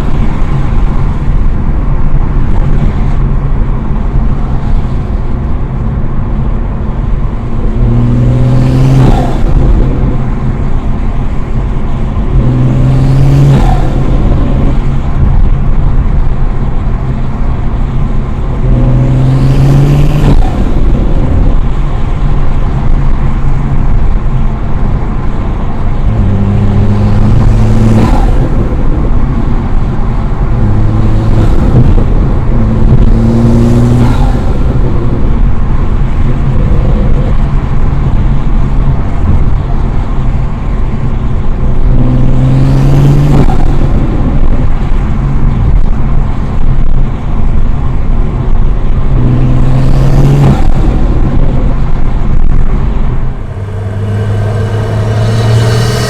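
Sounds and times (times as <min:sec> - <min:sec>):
car engine revving: 0:00.0 - 0:39.4, 0:49.0 - 0:56.0.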